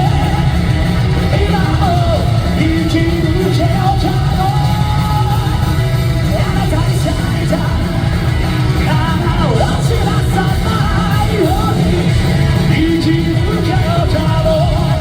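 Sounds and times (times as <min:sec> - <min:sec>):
live rock band playing: 0:00.0 - 0:15.0
person singing and yelling: 0:00.0 - 0:15.0.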